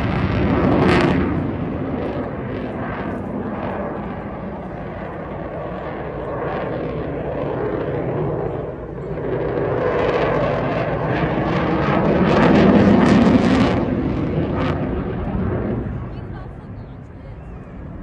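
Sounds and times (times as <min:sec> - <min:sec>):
aircraft flying past: 0:00.0 - 0:18.0.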